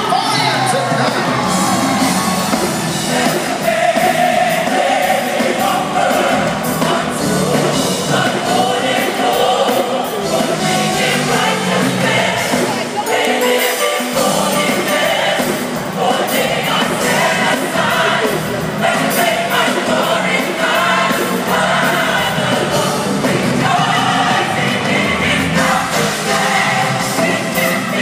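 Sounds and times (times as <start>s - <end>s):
church choir singing: 0.0s - 28.0s.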